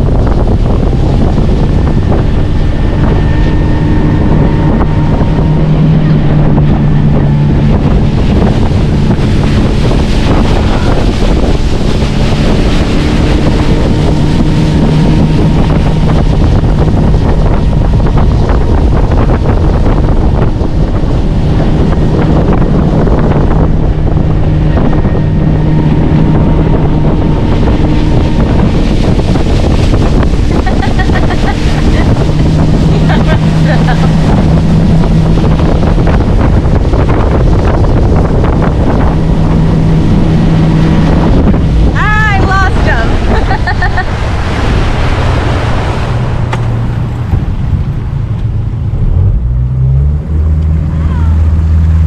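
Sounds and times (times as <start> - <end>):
motorboat engine running: 0.0 - 52.0
wind buffeting microphone: 0.0 - 52.0.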